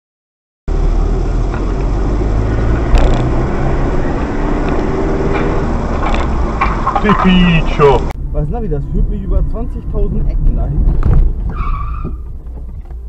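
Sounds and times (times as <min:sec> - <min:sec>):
road and engine rumble: 0:00.7 - 0:13.0.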